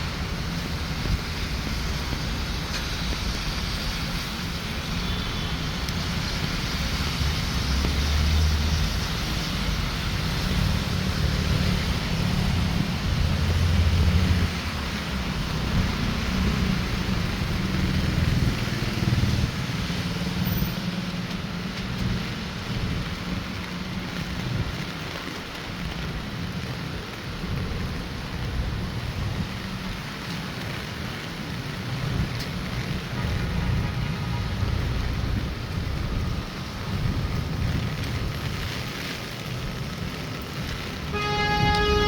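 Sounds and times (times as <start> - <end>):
steady rain on street: 0.0 - 42.0
vehicles passing on wet road: 0.0 - 42.0.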